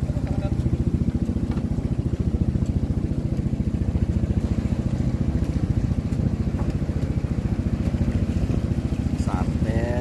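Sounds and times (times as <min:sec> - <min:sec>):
boat engine thudding: 0:00.0 - 0:10.0.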